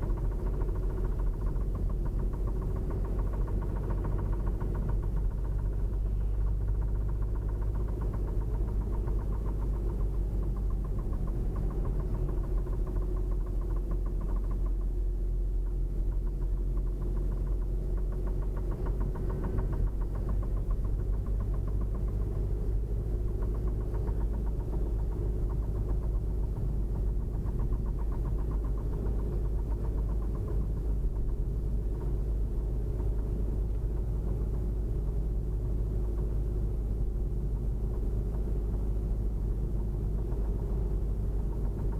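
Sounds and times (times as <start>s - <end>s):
car engine running: 0.0s - 41.9s
rapid engine knock: 0.0s - 41.9s.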